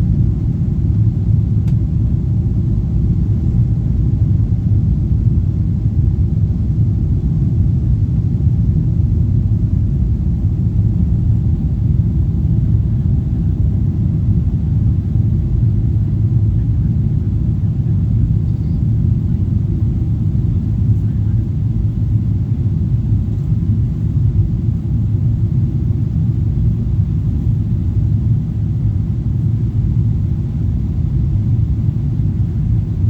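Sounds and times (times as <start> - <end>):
jet airliner engines rumbling: 0.0 - 33.0.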